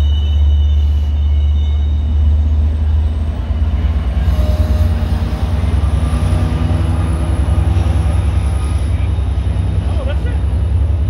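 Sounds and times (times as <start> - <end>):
diesel train engine rumbling: 0.0 - 11.0.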